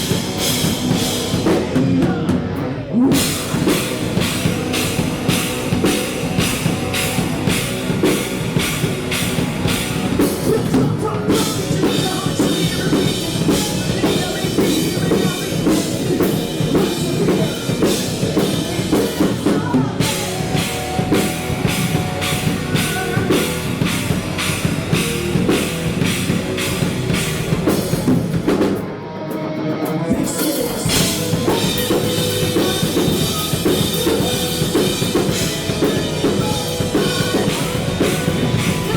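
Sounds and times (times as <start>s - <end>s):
driving drum kit: 0.0s - 29.0s, 29.8s - 38.9s
rock band playing: 0.0s - 38.9s.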